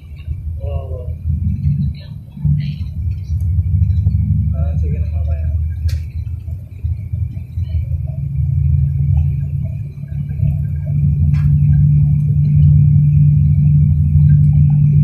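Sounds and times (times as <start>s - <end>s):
car cabin rumble at highway speed: 0.0s - 15.0s.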